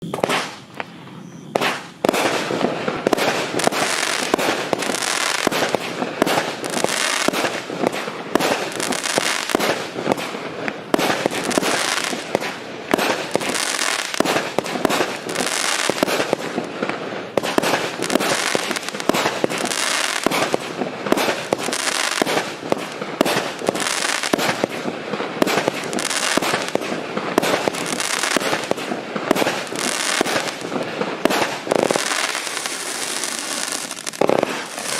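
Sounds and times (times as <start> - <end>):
fireworks launch thumps and bursts: 0.0 - 34.9
fireworks shot: 0.0 - 34.9.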